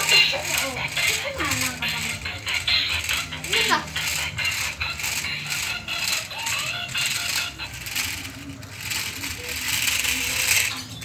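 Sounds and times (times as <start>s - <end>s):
music playing: 0.0s - 11.0s
toy car wheels rattling: 0.0s - 11.0s.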